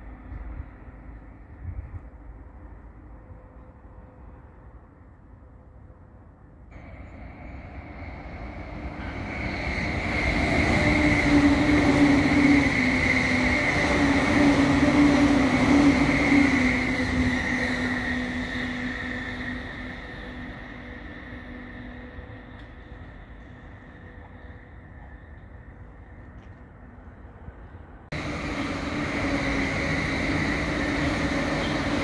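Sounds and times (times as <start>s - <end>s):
electric train passing: 0.0s - 32.0s
train whine: 0.0s - 32.0s.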